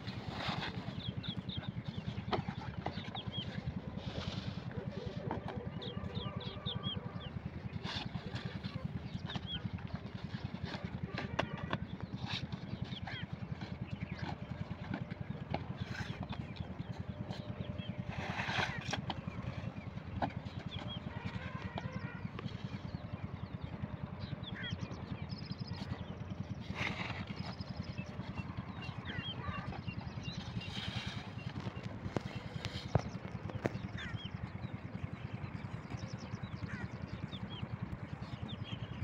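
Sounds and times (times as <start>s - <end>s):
birds chirping: 0.0s - 39.0s
diesel pump engine running: 0.0s - 39.0s.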